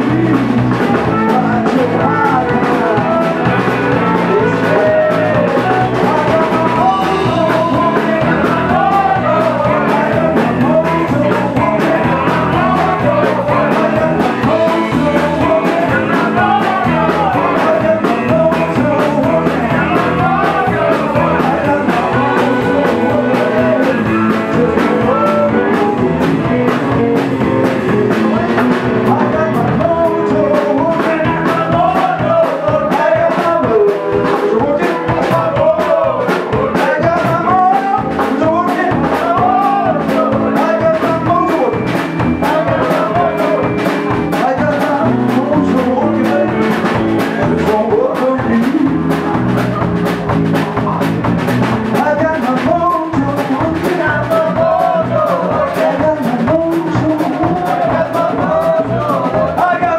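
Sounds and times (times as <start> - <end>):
drum kit: 0.0 - 59.9
electric guitar: 0.0 - 59.9
man singing: 0.0 - 59.9.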